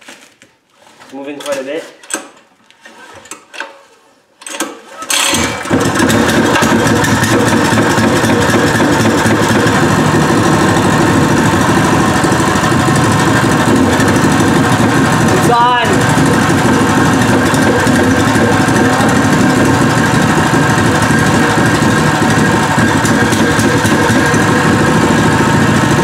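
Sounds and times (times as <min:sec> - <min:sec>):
engine starting and running: 0:04.4 - 0:26.0.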